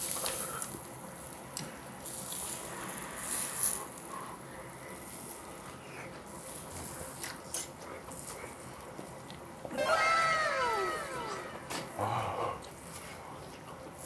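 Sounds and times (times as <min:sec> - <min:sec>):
charcoal grill hiss: 0:00.0 - 0:14.0.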